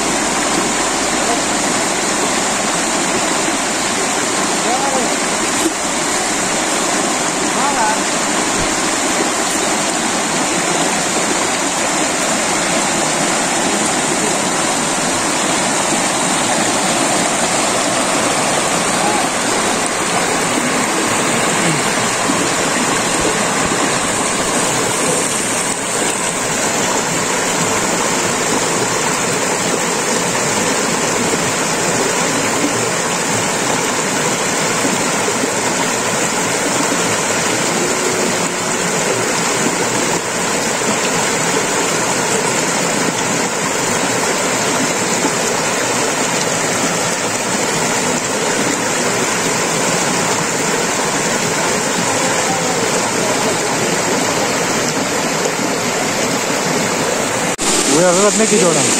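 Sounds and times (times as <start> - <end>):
stream water rushing over rocks: 0.0 - 58.9.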